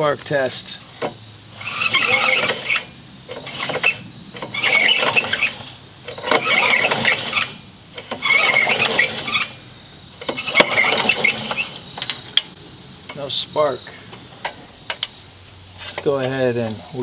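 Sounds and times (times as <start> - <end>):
lawn mower recoil starter pulls: 0.0 - 13.4, 14.1 - 17.0.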